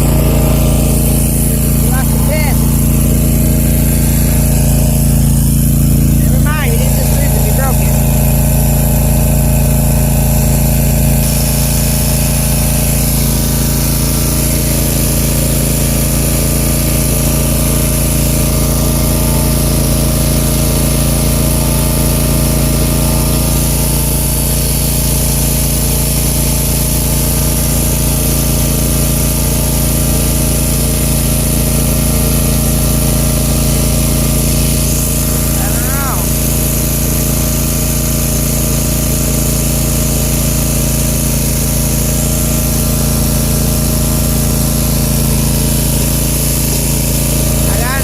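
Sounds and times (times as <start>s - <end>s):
riding mower engine under load: 0.0s - 48.0s.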